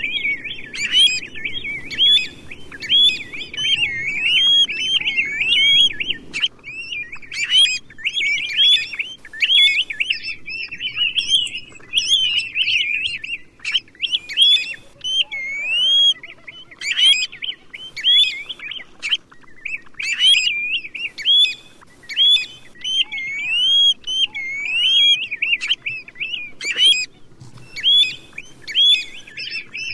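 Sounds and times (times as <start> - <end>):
bird whistling calls: 0.1 - 19.2, 20.0 - 29.9.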